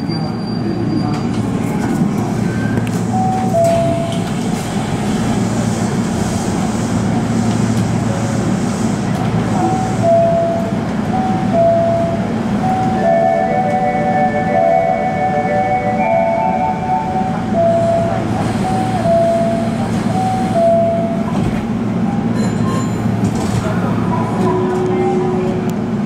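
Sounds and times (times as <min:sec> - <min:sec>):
train equipment humming: 0:01.4 - 0:26.0
station noise: 0:01.7 - 0:26.0.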